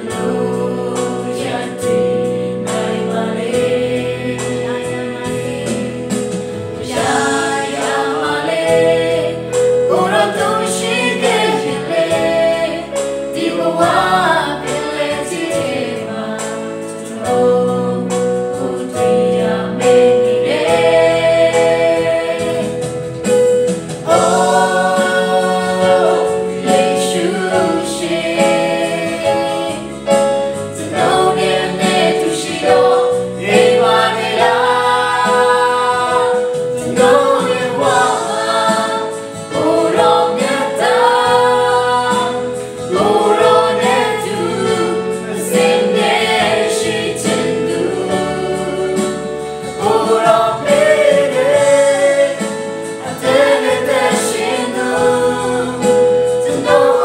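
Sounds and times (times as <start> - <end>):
voices singing together: 0.0 - 57.0.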